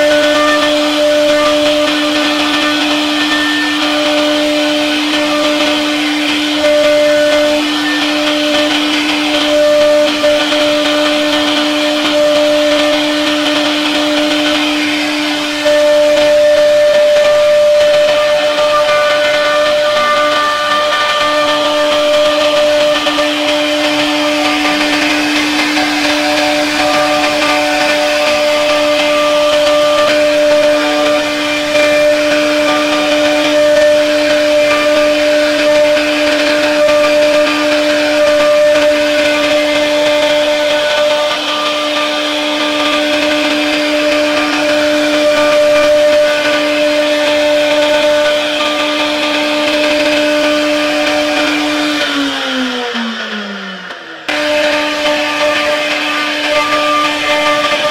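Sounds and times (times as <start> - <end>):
router spindle whining: 0.0 - 57.9.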